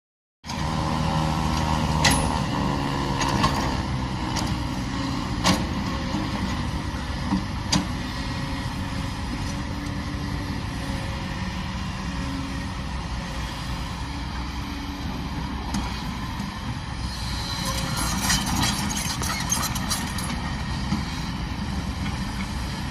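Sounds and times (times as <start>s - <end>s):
excavator diesel engine running: 0.5s - 22.9s.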